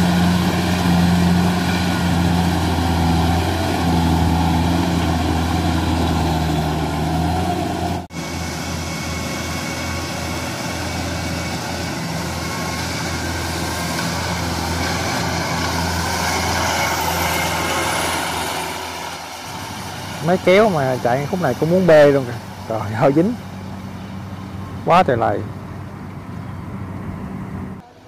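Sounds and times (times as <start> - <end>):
harvester engine humming: 0.0 - 28.0.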